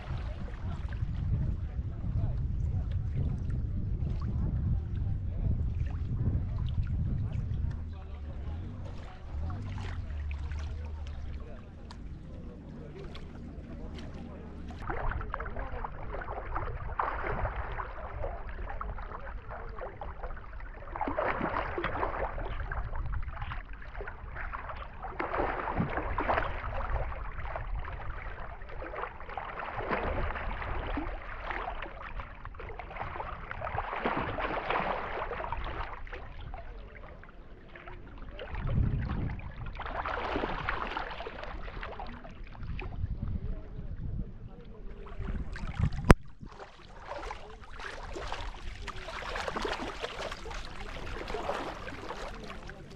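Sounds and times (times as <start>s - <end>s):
sea water sloshing and splashing: 0.0s - 52.9s
steady low rumble: 0.0s - 52.9s.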